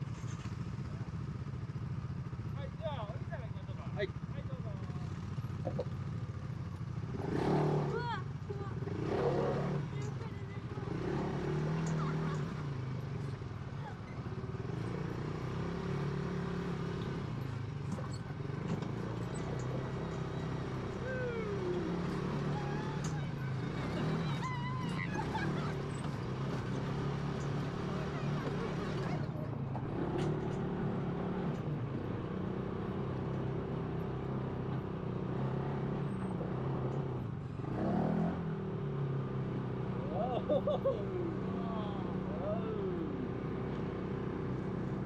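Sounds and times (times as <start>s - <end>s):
buggy engine running: 0.0s - 45.0s.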